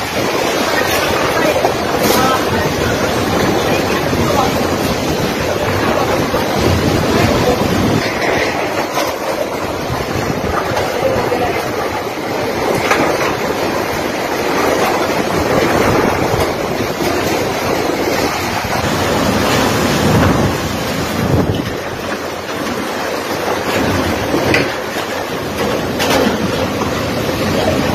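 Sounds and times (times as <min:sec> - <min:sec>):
driving rain: 0:00.0 - 0:27.9
strong wind: 0:00.0 - 0:27.9
wind buffeting microphone: 0:00.0 - 0:27.9.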